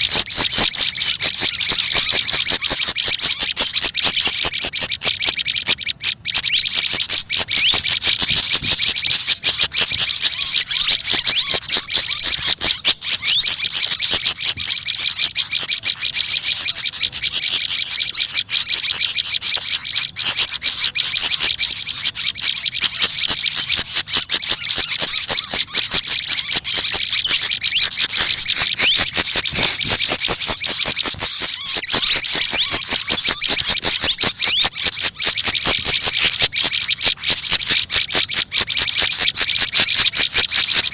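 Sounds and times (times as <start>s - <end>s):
songbirds chattering: 0.0s - 40.9s.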